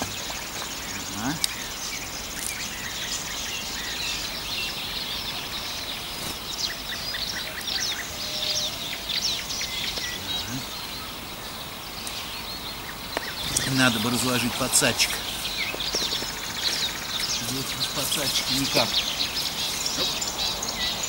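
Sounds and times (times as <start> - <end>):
songbirds chirping and trilling: 0.0 - 21.0
steady outdoor hiss: 0.0 - 21.0.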